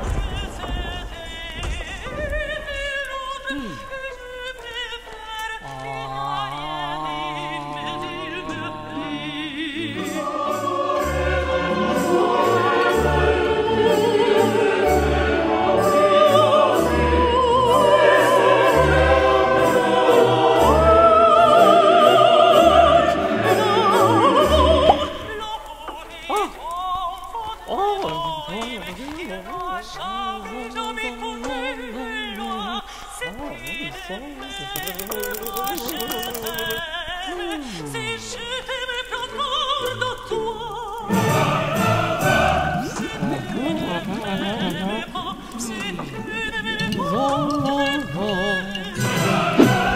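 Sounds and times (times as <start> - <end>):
operatic solo singing: 0.0 - 49.9.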